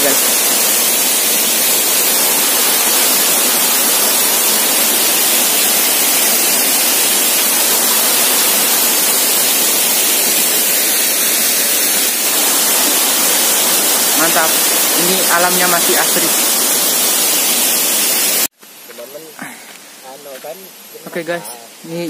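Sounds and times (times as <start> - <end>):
waterfall rushing: 0.0 - 18.5.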